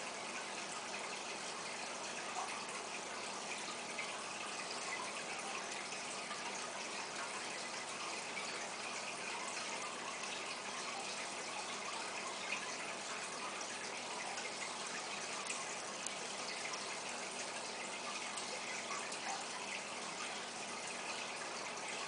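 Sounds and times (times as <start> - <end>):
water bubbling and splashing: 1.2 - 22.0.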